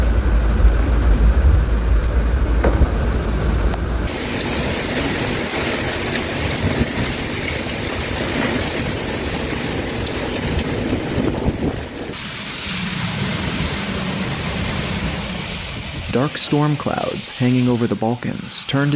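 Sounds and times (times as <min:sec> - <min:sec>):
wind buffeting microphone: 0:00.0 - 0:18.4
heavy rain and wind: 0:00.0 - 0:18.9.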